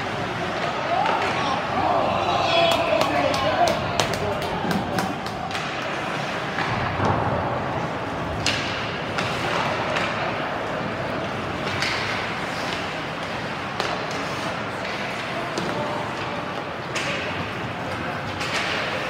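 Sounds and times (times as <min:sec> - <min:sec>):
hockey sticks and puck clacking: 0:00.0 - 0:19.0
hum of skates and crowd: 0:00.0 - 0:19.0.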